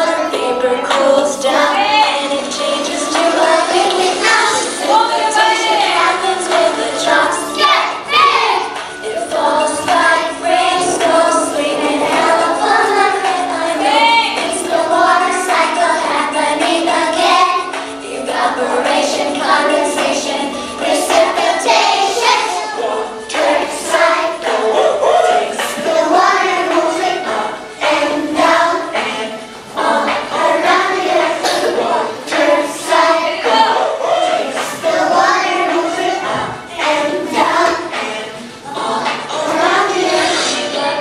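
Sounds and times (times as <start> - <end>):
young children singing: 0.0 - 41.0.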